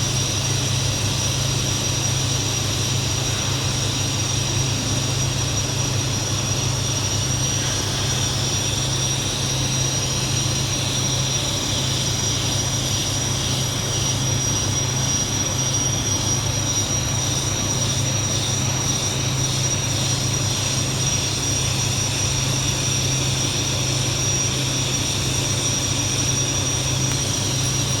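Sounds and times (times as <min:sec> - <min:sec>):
welding arc hum and whine: 0:00.0 - 0:28.0.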